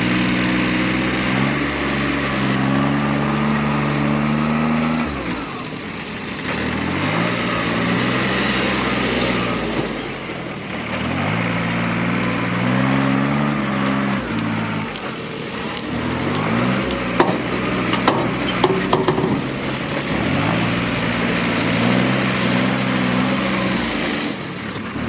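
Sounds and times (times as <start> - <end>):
engine revving under load: 0.0 - 25.0.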